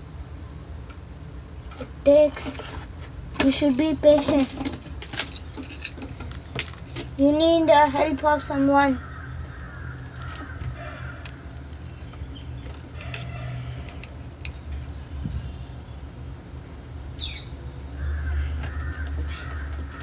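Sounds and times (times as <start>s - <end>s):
birds chirping: 1.5s - 20.0s.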